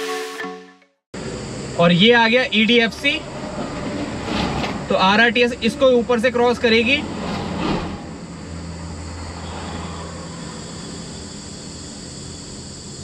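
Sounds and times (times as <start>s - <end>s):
road and wind noise: 1.2s - 13.0s.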